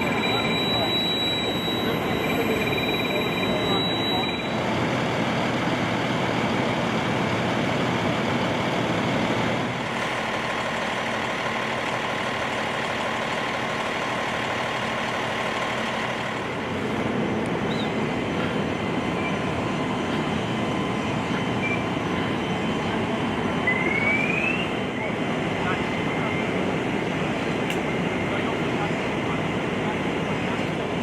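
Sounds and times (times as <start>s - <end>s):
engines droning: 0.0s - 31.0s.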